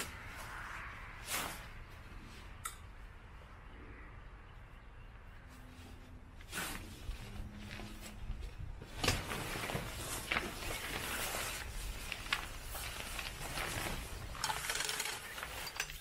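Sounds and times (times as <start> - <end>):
tent fabric rustling and crinkling: 0.0 - 2.5, 5.2 - 16.0.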